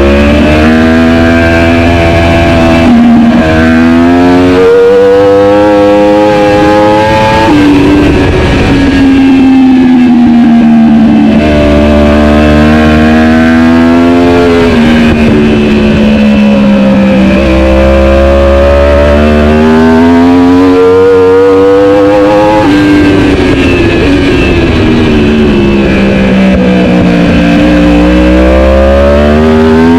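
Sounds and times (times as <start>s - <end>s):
superbike race engine at high revs: 0.0s - 29.9s.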